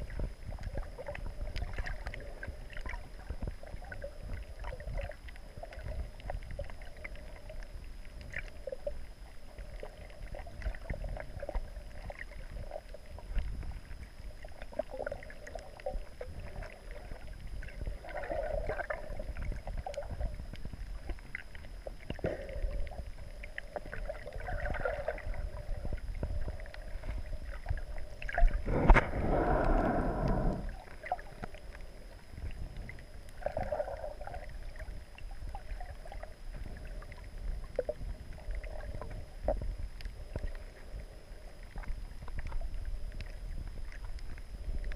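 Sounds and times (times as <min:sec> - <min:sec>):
muffled underwater water rumble: 0:00.0 - 0:44.9.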